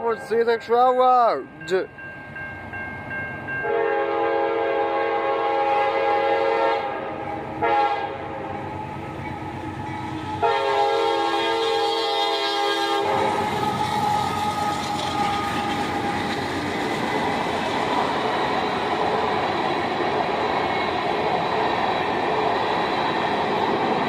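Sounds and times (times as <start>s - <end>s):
diesel locomotive passing: 0.0s - 24.0s.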